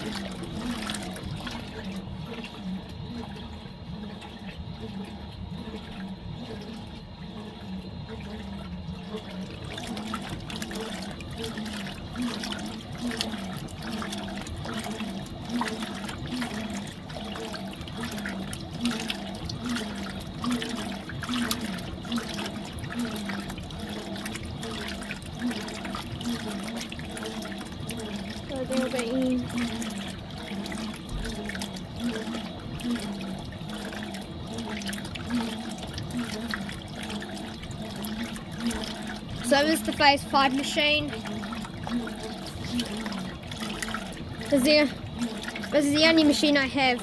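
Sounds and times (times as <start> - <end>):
washing machine agitator motor: 0.0 - 47.0
water sloshing and splashing: 0.0 - 47.0.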